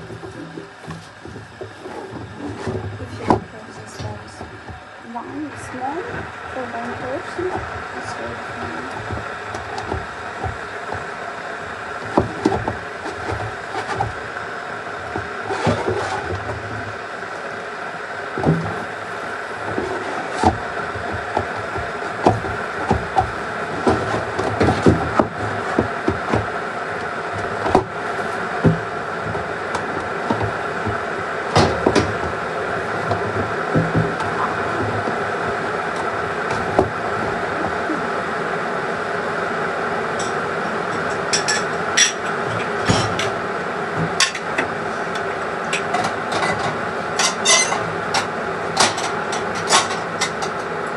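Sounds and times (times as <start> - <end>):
steady hum: 0.0 - 50.9.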